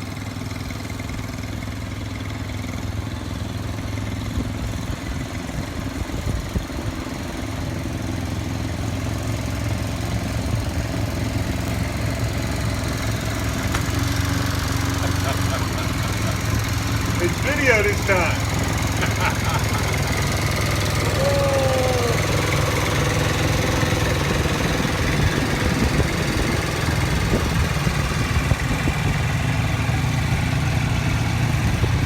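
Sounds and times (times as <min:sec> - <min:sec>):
snow blower engine running: 0:00.0 - 0:32.0.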